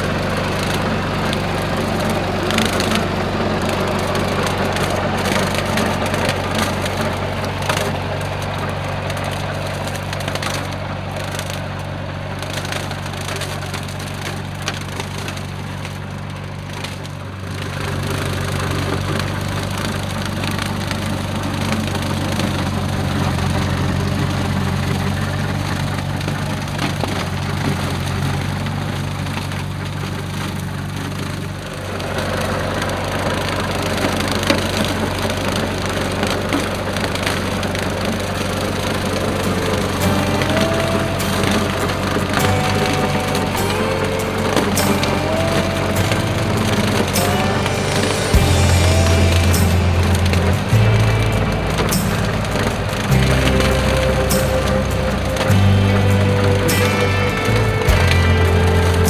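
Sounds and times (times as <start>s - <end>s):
rotary cutter shredding corn stalks: 0.0s - 59.0s
tractor engine running under load: 0.0s - 59.0s.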